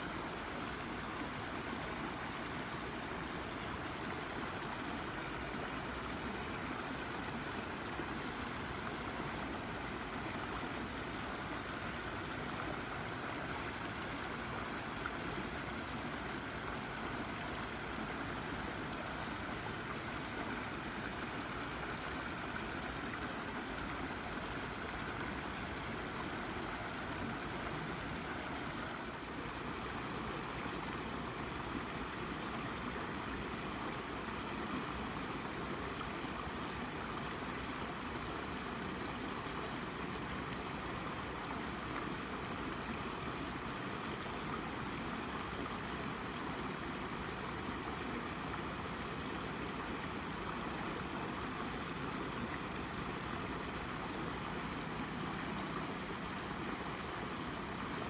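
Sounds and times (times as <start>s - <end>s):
brook babbling over rocks: 0.0s - 58.0s.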